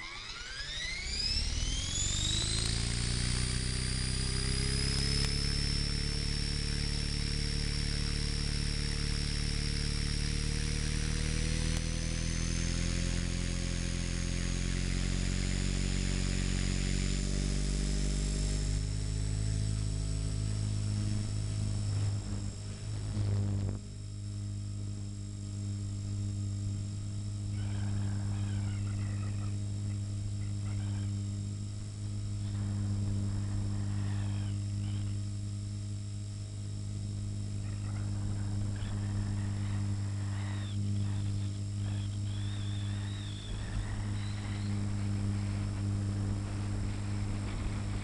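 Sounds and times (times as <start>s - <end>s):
model helicopter motor and rotors: 0.0s - 48.0s.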